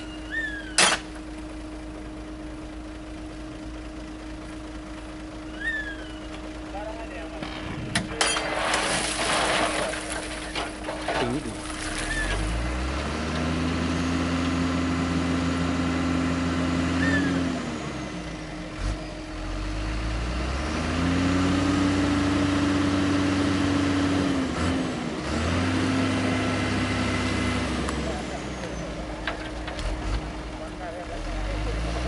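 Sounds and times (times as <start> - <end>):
diesel truck engine revving: 5.0 - 32.0.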